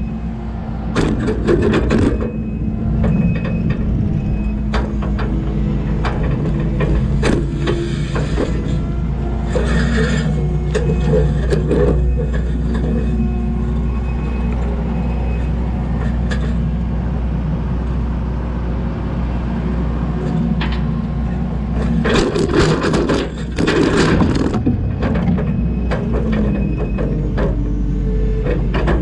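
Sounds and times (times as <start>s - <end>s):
skid steer diesel engine running: 0.0s - 29.0s.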